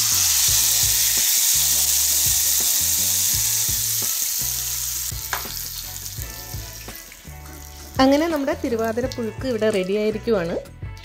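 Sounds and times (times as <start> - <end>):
hot oil sizzling loudly: 0.0 - 10.3.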